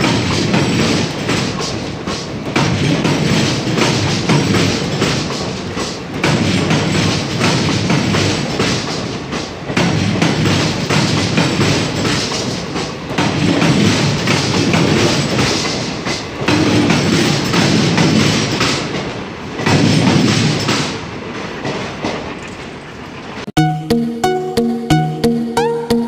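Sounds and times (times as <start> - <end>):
train wheels clattering over points: 0.0 - 23.1
rolling rumble of train: 0.0 - 23.5.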